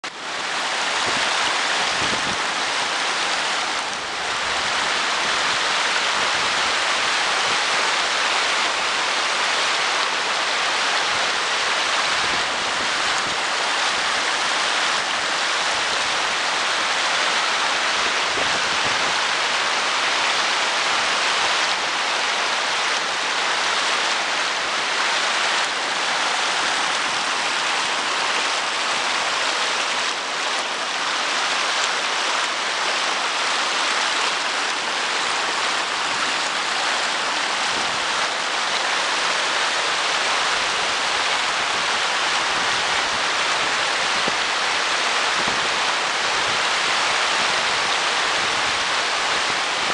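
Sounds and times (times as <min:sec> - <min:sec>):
waterfall rushing over rocks: 0:00.0 - 0:49.9.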